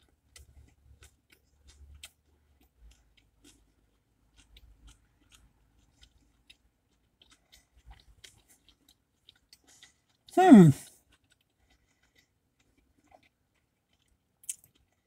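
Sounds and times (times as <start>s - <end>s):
chewing with soft crunches: 0.0s - 15.0s.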